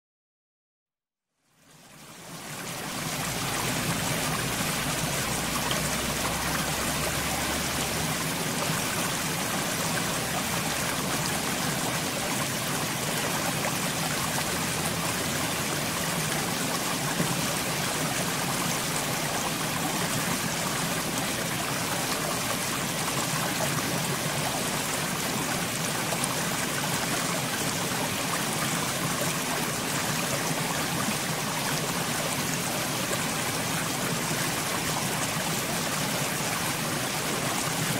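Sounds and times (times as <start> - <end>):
stream water trickling over rocks: 1.5 - 37.9.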